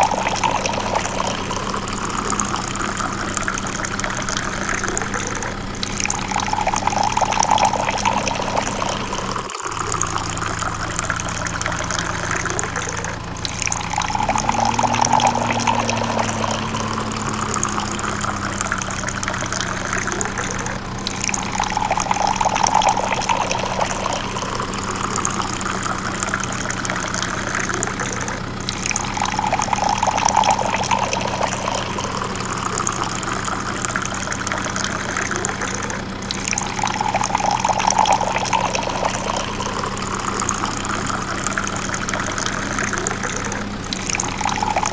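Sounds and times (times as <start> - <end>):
water pouring and splashing: 0.0 - 44.9
water pump motor hum: 0.0 - 44.9.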